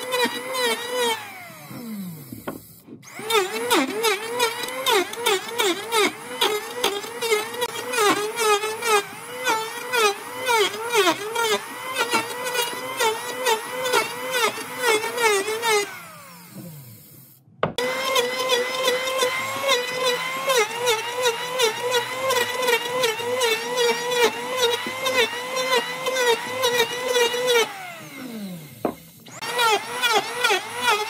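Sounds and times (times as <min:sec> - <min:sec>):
electric hand planer whining: 0:00.0 - 0:17.2, 0:17.8 - 0:31.0.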